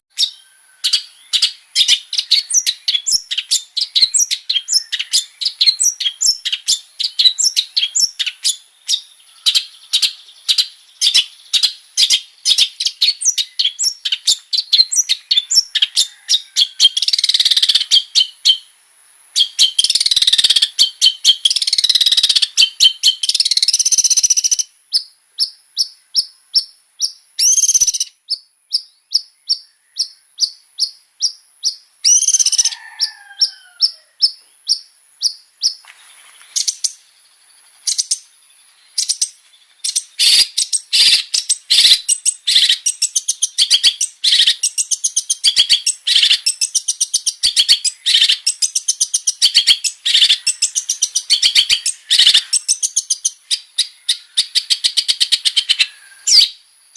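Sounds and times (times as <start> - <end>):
shrike singing chirps: 0.1 - 18.7, 19.3 - 56.6.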